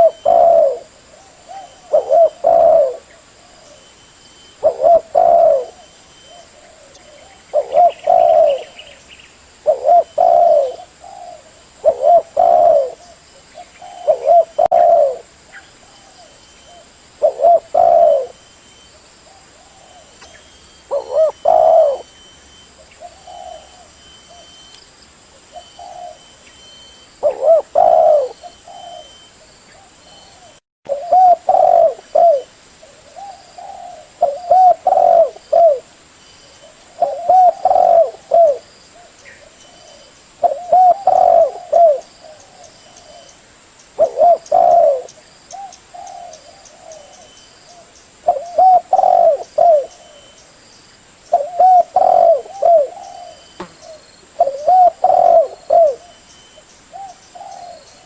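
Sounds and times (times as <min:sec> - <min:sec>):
dove cooing: 0:00.0 - 0:09.0, 0:09.6 - 0:18.4, 0:19.3 - 0:24.6, 0:25.4 - 0:35.9, 0:36.6 - 0:43.4, 0:44.0 - 0:50.5, 0:51.3 - 0:58.0.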